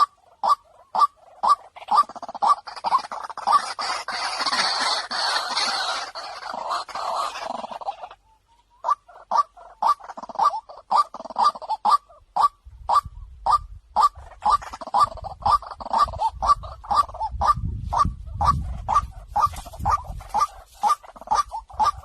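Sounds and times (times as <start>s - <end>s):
short repeated bird calls: 0.0s - 22.0s
waterhen chorus calling: 0.0s - 22.0s.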